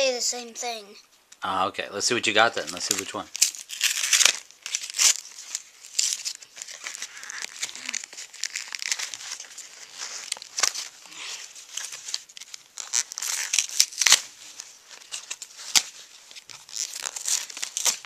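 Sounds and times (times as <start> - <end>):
foil wrapper ripping: 2.6 - 18.0
packaging crackling: 2.6 - 18.0.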